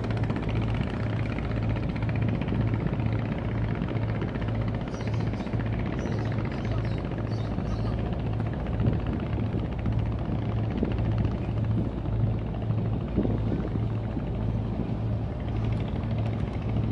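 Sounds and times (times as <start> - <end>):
boat engine humming: 0.0 - 16.9.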